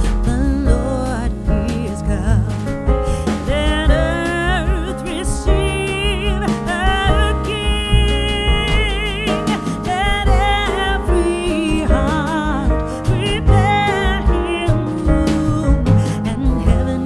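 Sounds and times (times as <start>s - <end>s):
song with singing voice: 0.0s - 17.0s.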